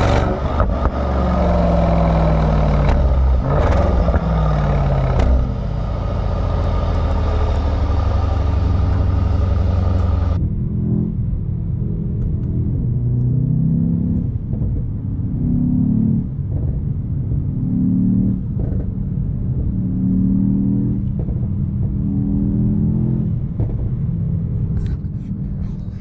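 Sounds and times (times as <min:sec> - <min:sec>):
car engine revving under load: 0:00.0 - 0:26.0.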